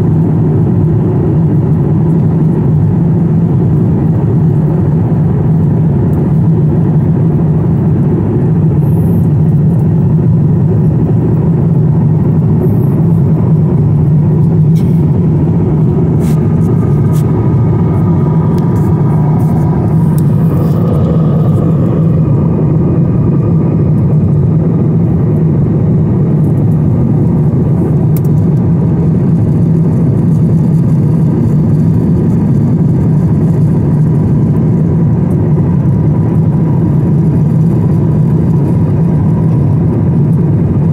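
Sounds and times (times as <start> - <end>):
jet engine and rushing air: 0.0 - 40.9.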